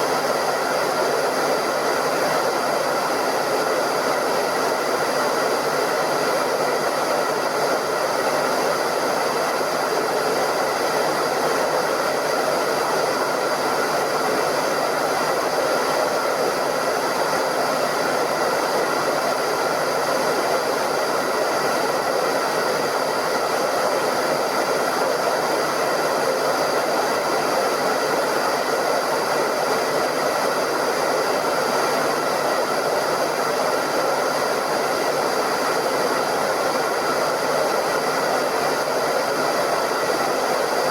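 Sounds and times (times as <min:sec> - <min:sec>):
hairdryer blowing: 0:00.0 - 0:40.9.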